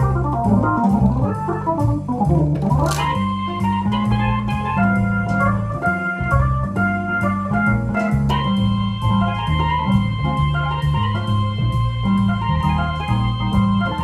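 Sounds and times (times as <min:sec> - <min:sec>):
jazz organ playing: 0:00.0 - 0:14.0.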